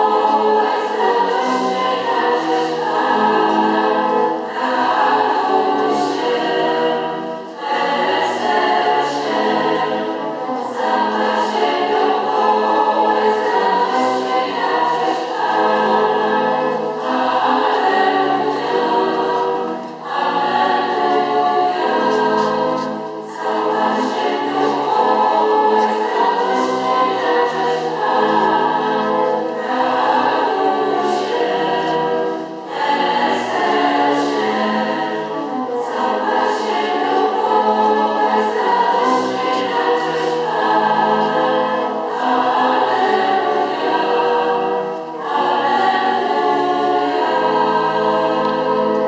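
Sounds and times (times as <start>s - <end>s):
choir singing: 0.0s - 49.0s.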